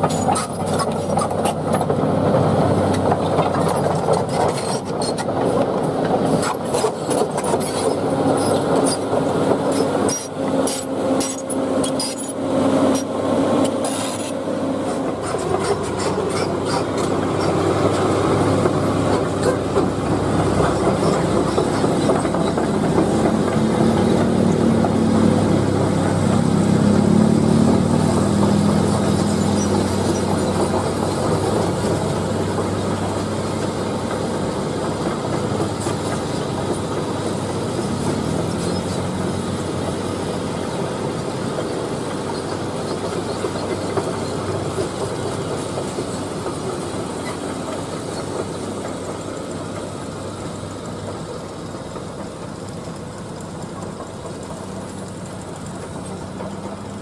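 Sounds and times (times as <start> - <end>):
diesel machinery clattering: 0.0 - 57.0.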